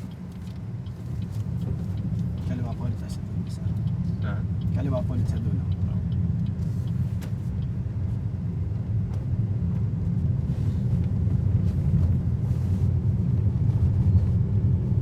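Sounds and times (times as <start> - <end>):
road and tyre noise in car: 0.0 - 15.0.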